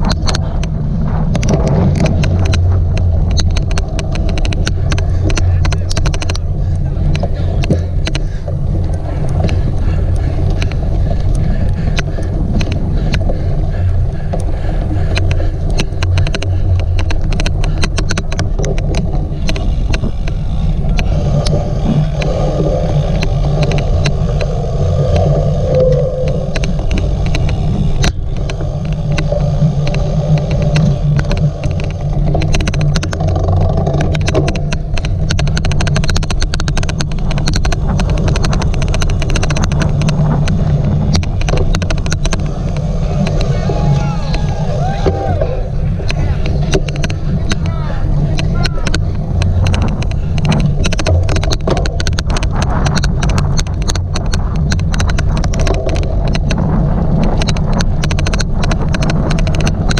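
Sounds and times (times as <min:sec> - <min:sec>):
sharp clicks: 0:00.0 - 0:59.9
wind and riding rumble: 0:00.0 - 0:59.9.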